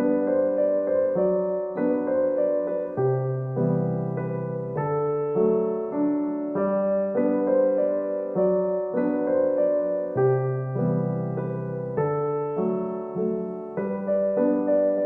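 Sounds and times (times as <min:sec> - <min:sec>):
soft piano melody: 0:00.0 - 0:15.0.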